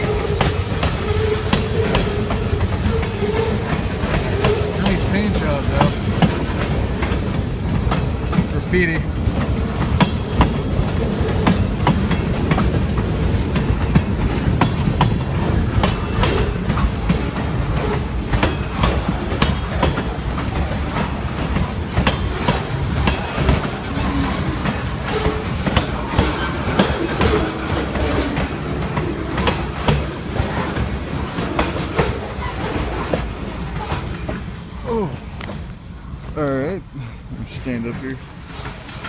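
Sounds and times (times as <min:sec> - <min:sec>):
wheels clanking over rail joints: 0:00.0 - 0:36.8
freight train rumbling past: 0:00.0 - 0:39.0.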